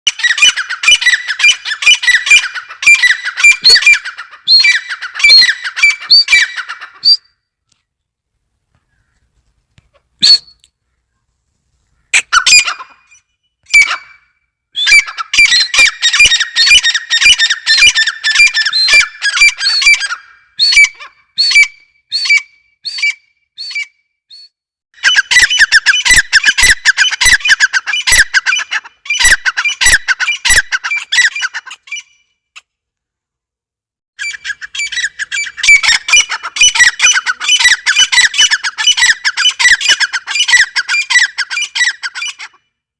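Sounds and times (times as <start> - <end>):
bird calling in squeaky notes: 0.1 - 7.3, 9.9 - 10.7, 11.9 - 32.3, 34.2 - 42.6.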